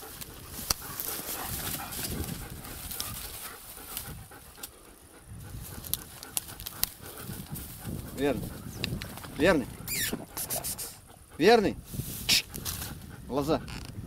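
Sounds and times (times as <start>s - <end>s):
dog panting: 0.0s - 11.8s, 12.4s - 13.7s.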